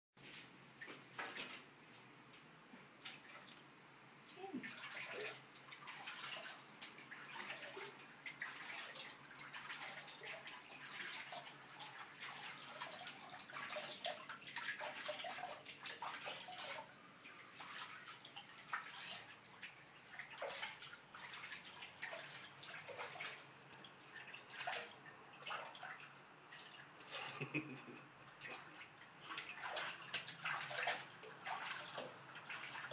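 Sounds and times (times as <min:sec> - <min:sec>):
water splashing in sink: 0:03.0 - 0:32.9.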